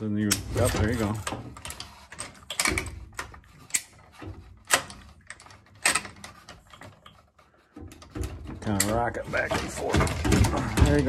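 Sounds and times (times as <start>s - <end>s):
handling noise: 0.2s - 11.0s
tools knocking on copper tubing: 0.3s - 11.0s.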